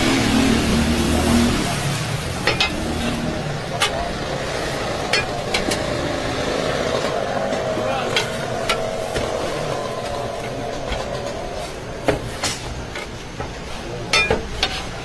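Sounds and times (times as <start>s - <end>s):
griddle sizzling: 0.0s - 15.0s.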